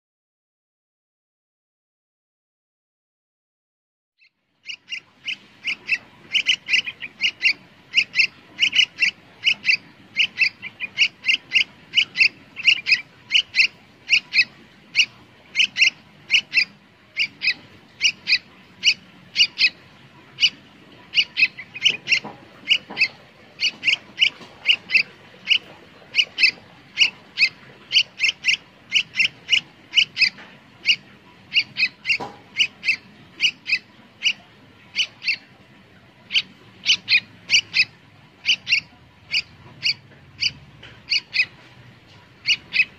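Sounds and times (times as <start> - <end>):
bird chirping: 4.2 - 42.9.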